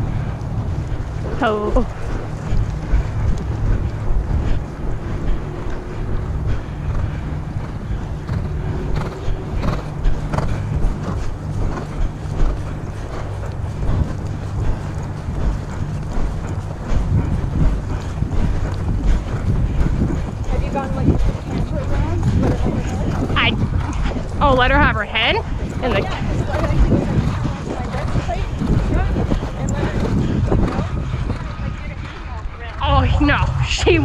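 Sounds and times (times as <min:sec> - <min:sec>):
faint horse hoofbeats: 0:00.0 - 0:33.6
wind buffeting microphone: 0:00.0 - 0:34.0.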